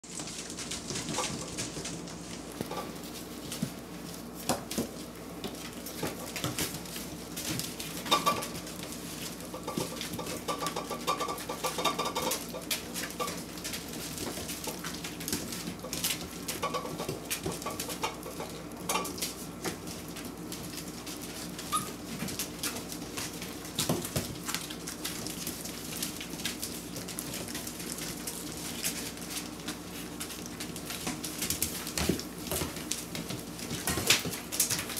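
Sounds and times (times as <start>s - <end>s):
puppy claws clicking on floor: 0.1s - 34.9s.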